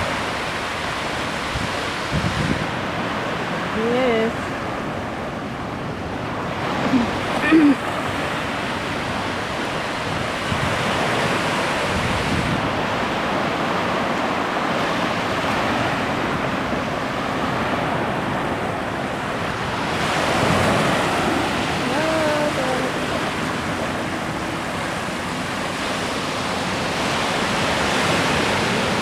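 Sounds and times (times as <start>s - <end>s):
ocean surf rushing: 0.0s - 29.0s
wind on microphone: 0.0s - 29.0s.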